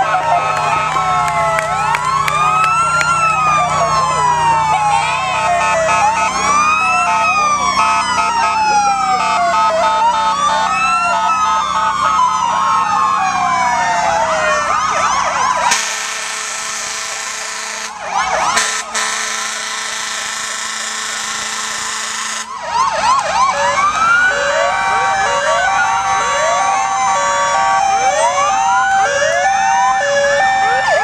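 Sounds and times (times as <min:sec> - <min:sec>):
emergency vehicle sirens wailing: 0:00.0 - 0:31.0.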